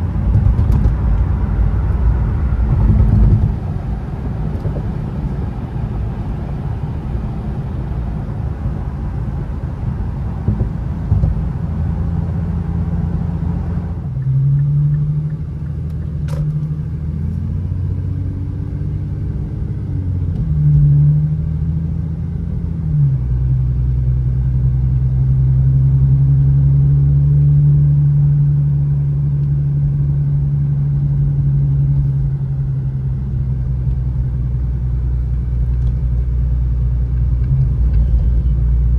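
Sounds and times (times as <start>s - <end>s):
car engine hum: 0.0s - 38.9s.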